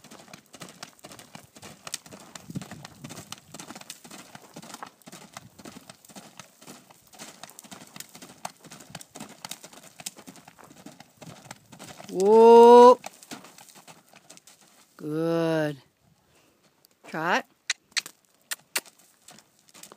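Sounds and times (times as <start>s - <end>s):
horse hoofbeats on dirt: 0.0s - 15.1s, 16.6s - 19.9s.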